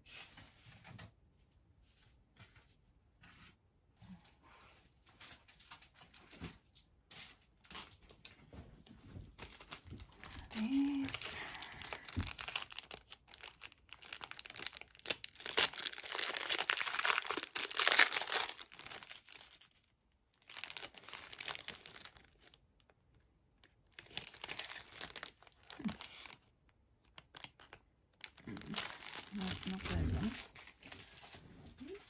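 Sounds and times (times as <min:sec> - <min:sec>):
packaging rustling and crinkling: 0:04.8 - 0:23.0, 0:23.6 - 0:32.0.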